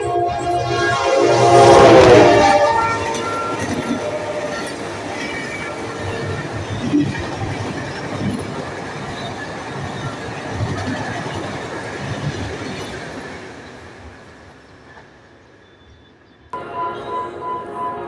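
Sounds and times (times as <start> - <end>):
train wheels rumbling and rattling: 0.0 - 16.5.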